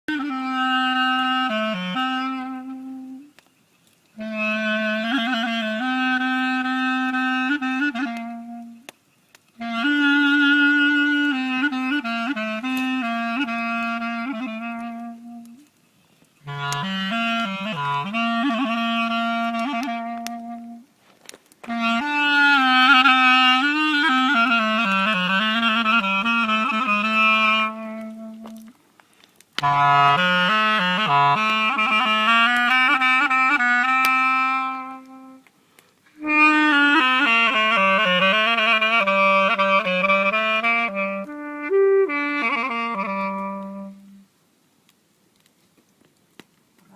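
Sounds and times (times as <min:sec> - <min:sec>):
reedy woodwind melody: 0:00.1 - 0:44.4.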